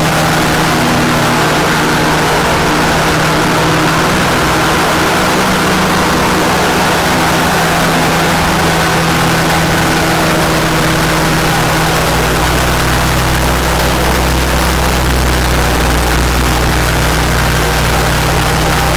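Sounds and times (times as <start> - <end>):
two-stroke engine running: 0.0 - 18.9.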